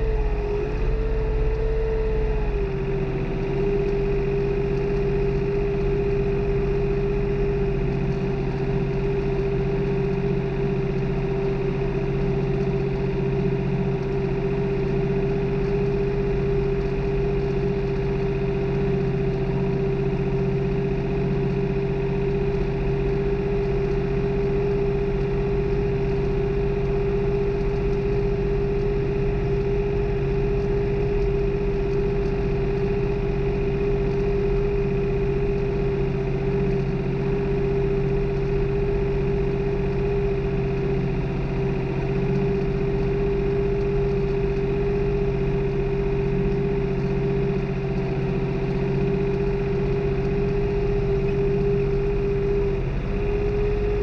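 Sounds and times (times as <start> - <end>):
constant high hum: 0.0 - 54.0
tractor diesel engine running: 0.0 - 54.0.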